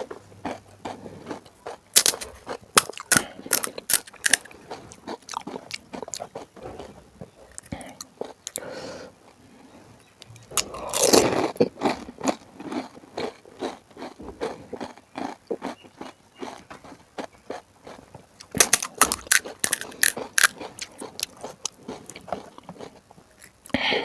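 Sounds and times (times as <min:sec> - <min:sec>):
crunching and chewing: 0:00.0 - 0:08.7, 0:10.0 - 0:23.8.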